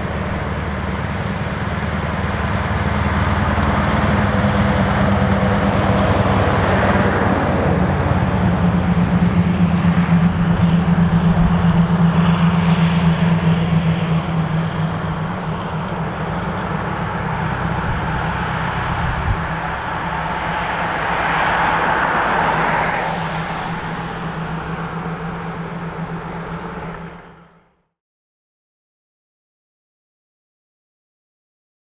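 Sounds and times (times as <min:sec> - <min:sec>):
diesel truck driving past: 0:00.0 - 0:27.8.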